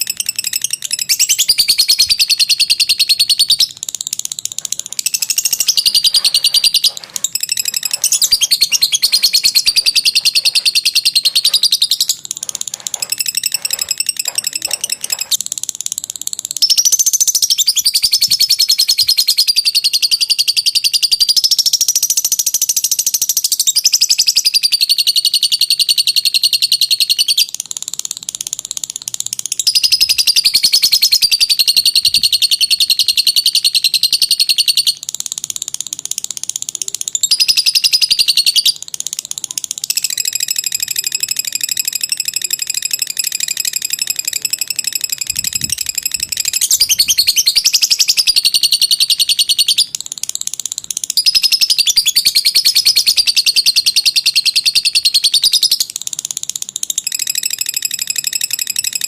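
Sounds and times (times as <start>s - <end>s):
lovebird chattering trill: 0.0s - 59.0s.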